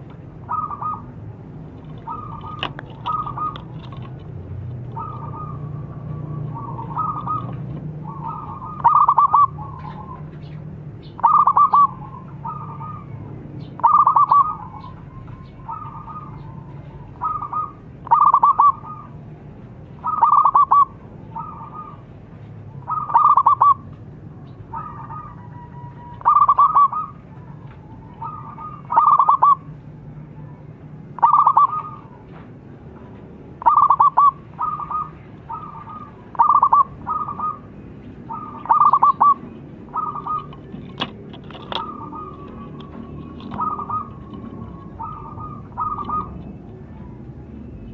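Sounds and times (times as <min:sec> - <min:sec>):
dove cooing: 0:00.0 - 0:19.2, 0:20.0 - 0:22.1, 0:22.8 - 0:23.9, 0:24.5 - 0:29.8, 0:30.4 - 0:32.4, 0:33.6 - 0:47.9.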